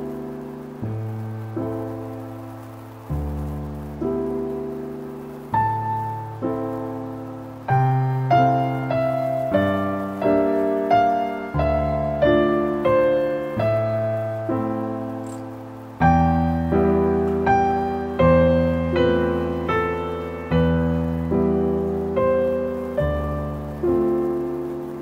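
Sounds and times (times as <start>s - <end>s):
slow piano melody: 0.0s - 25.0s.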